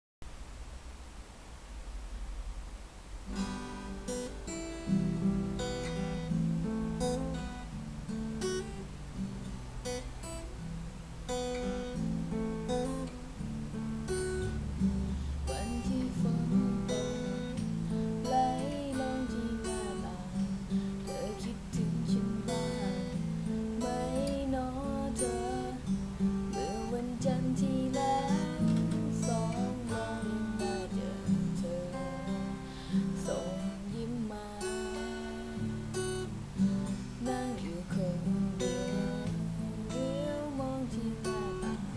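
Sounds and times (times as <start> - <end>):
acoustic guitar: 3.1 - 41.9.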